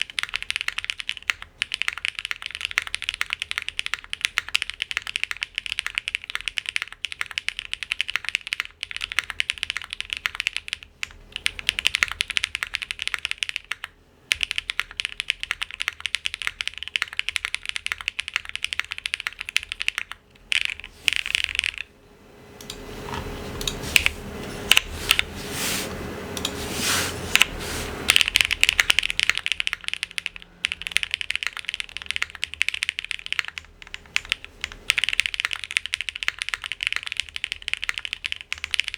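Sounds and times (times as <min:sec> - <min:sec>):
mechanical keyboard typing: 0:00.0 - 0:21.9, 0:22.6 - 0:25.3, 0:27.3 - 0:38.9.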